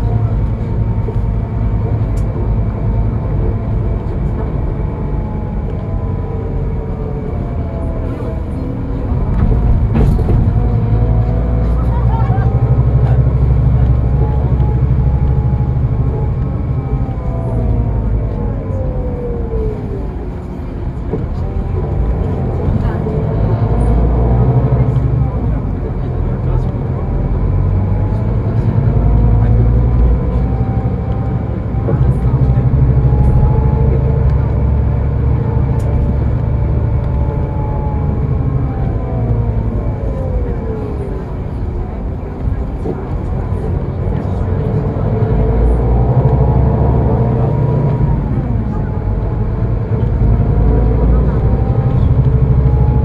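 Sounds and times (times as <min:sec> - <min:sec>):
bus engine and road rumble: 0:00.0 - 0:53.0
drivetrain whine: 0:00.0 - 0:53.0.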